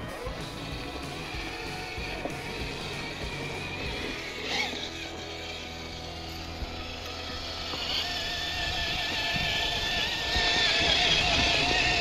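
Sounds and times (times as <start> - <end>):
toy car electric motor whining: 0.0 - 12.0.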